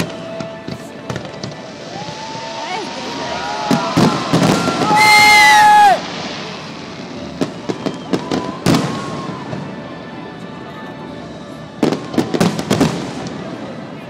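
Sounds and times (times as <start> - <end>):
fireworks bursting: 0.0 - 10.2, 11.2 - 14.0.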